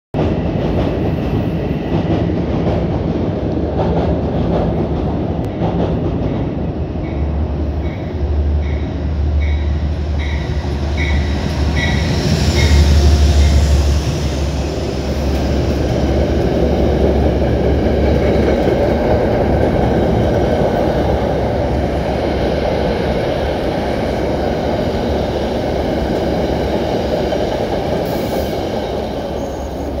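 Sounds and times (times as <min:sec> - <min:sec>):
train wheels rumbling on rails: 0:00.1 - 0:30.0
train passing: 0:00.2 - 0:30.0.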